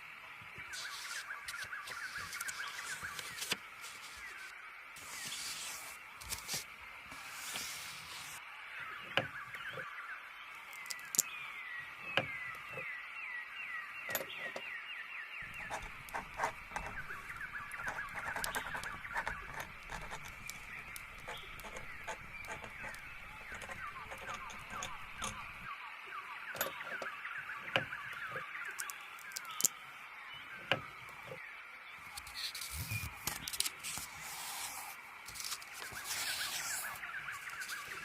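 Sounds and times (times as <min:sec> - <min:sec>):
birds chirping: 0:00.0 - 0:05.6, 0:08.8 - 0:38.0.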